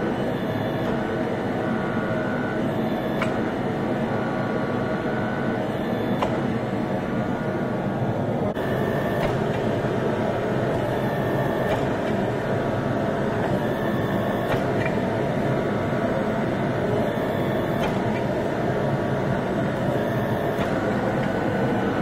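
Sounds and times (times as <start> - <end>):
hydraulic press motor droning: 0.0 - 22.0.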